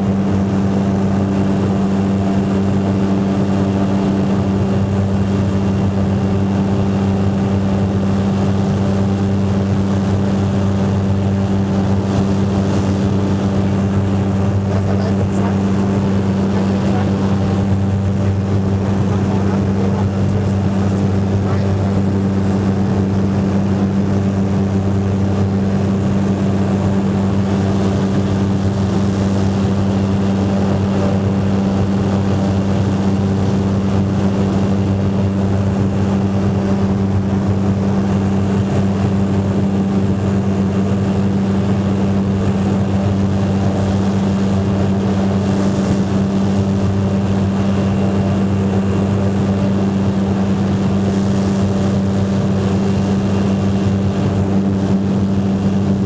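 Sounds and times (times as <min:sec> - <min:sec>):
propeller engine drone: 0:00.0 - 0:56.0.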